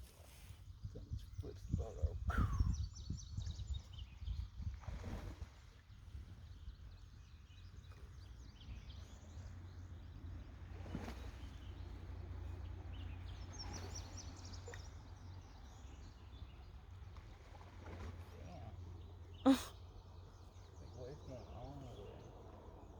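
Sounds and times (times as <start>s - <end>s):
creek low rumble: 0.0s - 22.9s
birds chirping: 0.7s - 4.7s, 5.8s - 22.9s.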